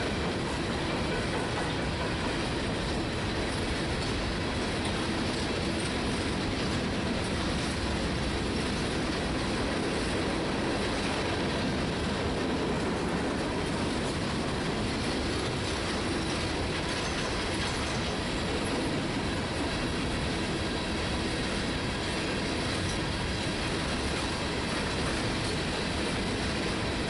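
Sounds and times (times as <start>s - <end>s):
rail joint clatter: 0.0s - 27.0s
train wheels rumbling on rail: 0.0s - 27.0s.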